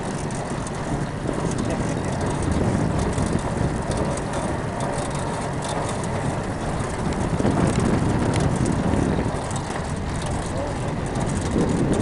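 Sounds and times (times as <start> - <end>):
trike rolling noise: 0.0 - 12.0
wind buffeting microphone: 0.0 - 12.0.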